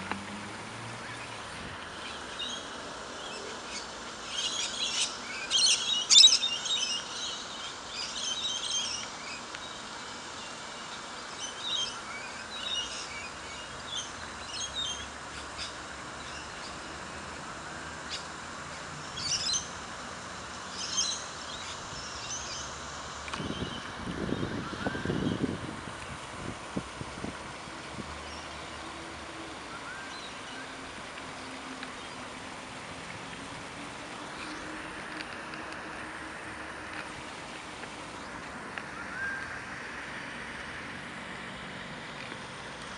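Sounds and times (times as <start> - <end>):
steady background hiss: 0.0 - 42.9
birds chirping: 0.9 - 17.4, 18.0 - 26.3, 28.2 - 42.0.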